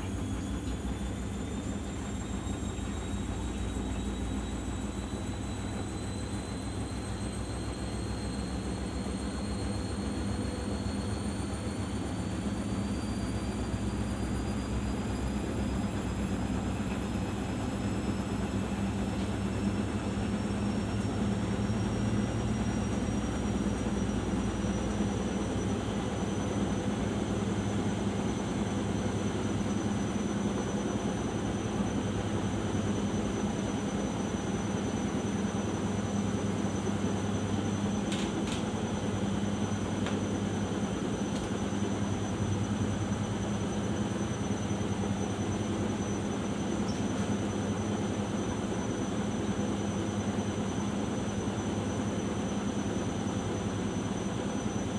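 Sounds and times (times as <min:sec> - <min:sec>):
washing machine spinning: 0:00.0 - 0:54.9.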